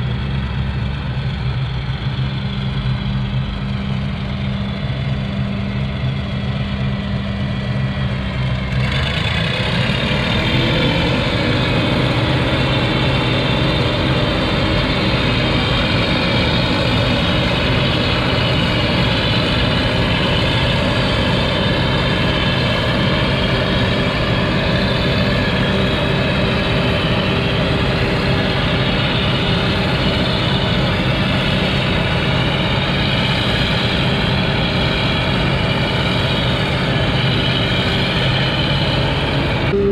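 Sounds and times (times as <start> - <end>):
heavy farm machinery running: 0.0 - 39.9
machinery whine rising in pitch: 0.0 - 39.9.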